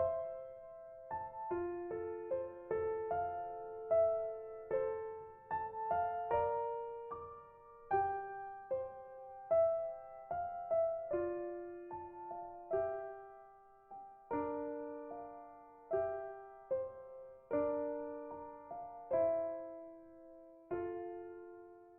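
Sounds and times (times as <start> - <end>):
slow gentle piano music: 0.0 - 21.9.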